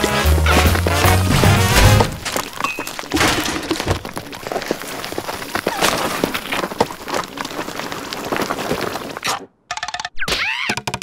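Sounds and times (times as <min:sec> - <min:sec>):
crackling rattling clatter: 0:00.0 - 0:10.1.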